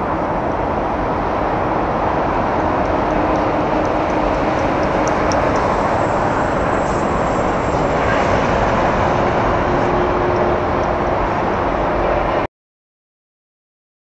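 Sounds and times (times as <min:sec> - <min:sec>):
jet engine noise: 0:00.0 - 0:12.5.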